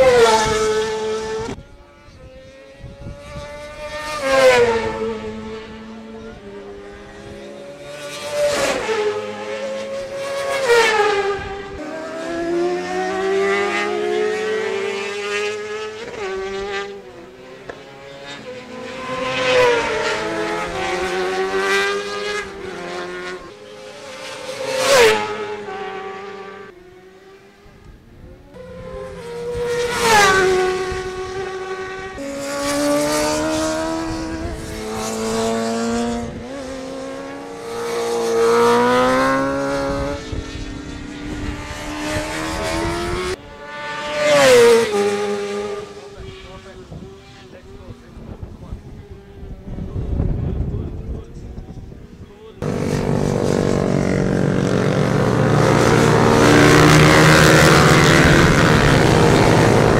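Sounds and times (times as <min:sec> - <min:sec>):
motorcycles passing close by: 0:00.0 - 0:59.9
racing motorcycles revving: 0:00.0 - 0:59.9.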